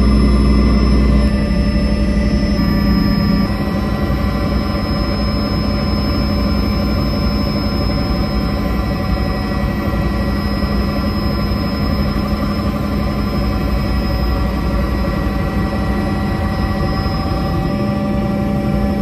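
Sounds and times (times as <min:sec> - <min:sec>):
helicopter engine drone: 0:00.0 - 0:19.0
high whine: 0:00.0 - 0:19.0.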